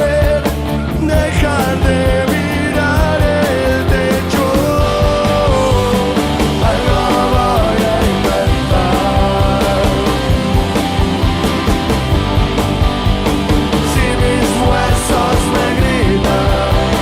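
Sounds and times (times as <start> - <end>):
person singing: 0.0 - 10.6, 13.8 - 17.0
rock music with drum beat: 0.0 - 17.0.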